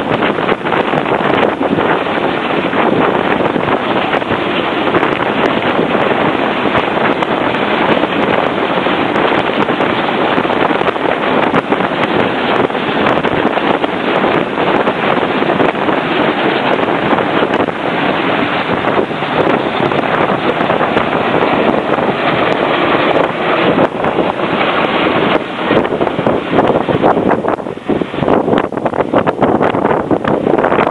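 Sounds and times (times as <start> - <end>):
helicopter hovering: 0.0 - 30.9
rotor downwash buffeting microphone: 0.0 - 30.9.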